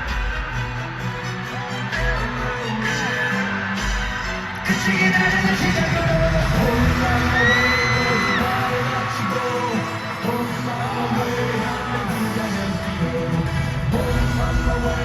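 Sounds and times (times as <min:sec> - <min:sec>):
audience yelling: 0:00.0 - 0:15.0
live pop concert music with singing: 0:00.0 - 0:15.0.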